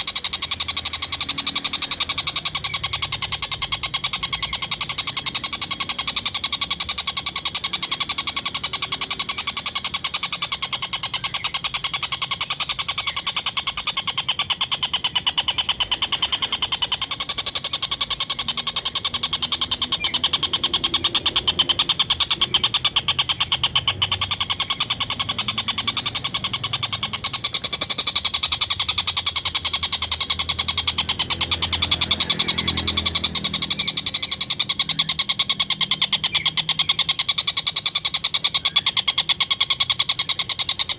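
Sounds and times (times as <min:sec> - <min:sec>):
kingfisher chattering: 0:00.0 - 0:40.9.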